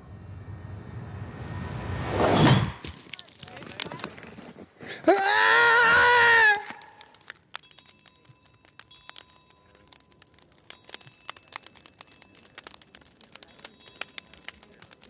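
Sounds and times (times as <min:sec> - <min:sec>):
bonfire crackling: 0:01.3 - 0:15.0.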